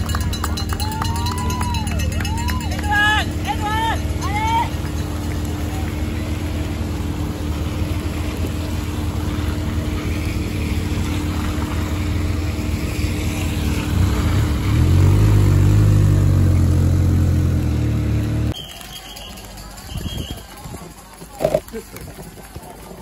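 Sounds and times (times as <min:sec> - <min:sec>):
cars passing on wet road: 0:00.0 - 0:19.8.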